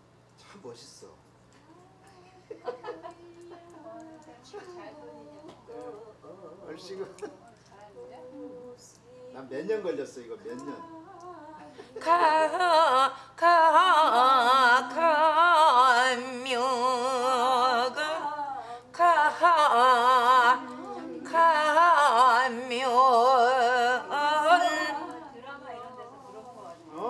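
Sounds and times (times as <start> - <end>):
woman singing with vibrato: 1.6 - 9.4, 10.6 - 26.9.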